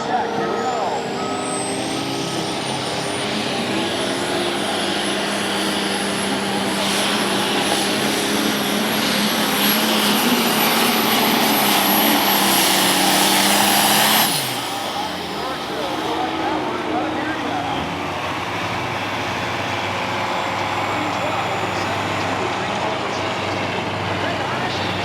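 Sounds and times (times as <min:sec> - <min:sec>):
diesel engine under heavy load: 0:00.0 - 0:25.0.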